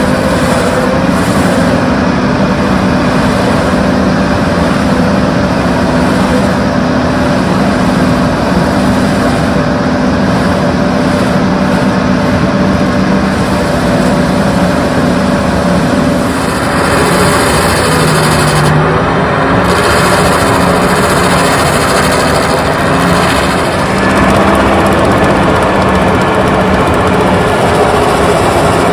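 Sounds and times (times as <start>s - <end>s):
excavator diesel engine: 0.0s - 28.9s
hydraulic mulcher running: 0.0s - 28.9s.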